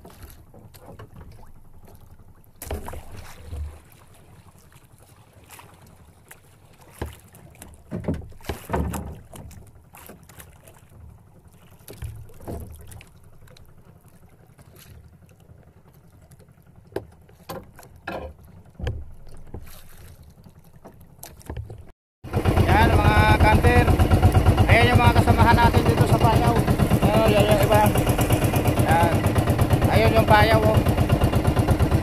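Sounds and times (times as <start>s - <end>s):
water lapping against boat hull: 0.0s - 32.0s.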